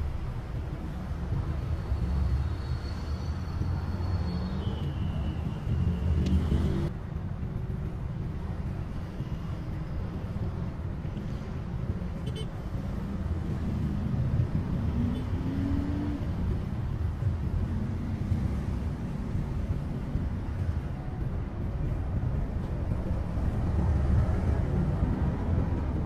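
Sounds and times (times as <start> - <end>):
van engine and road rumble: 0.0 - 26.0.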